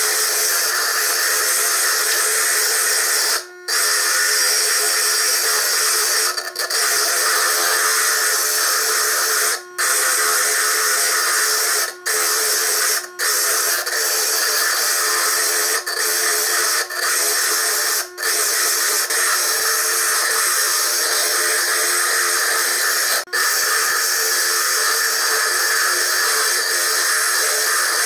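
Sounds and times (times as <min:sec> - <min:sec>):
high grinding hiss: 0:00.0 - 0:28.0.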